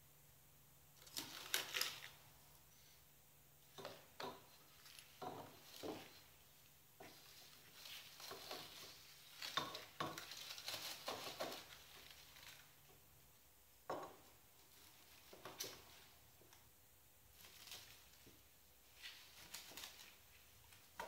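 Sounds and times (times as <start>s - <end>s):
rustling and crackling shavings: 1.0s - 2.9s, 3.7s - 13.4s, 14.3s - 21.0s.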